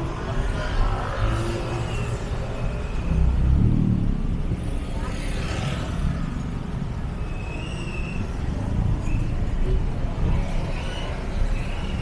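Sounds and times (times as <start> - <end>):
passing road traffic rumble: 0.0 - 12.0.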